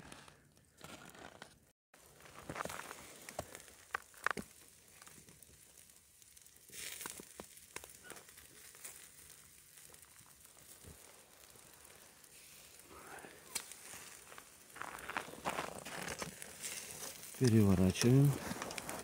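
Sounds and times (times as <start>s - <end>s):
faint fire crackling: 0.0s - 19.0s
fat sizzling on coals: 2.0s - 19.0s.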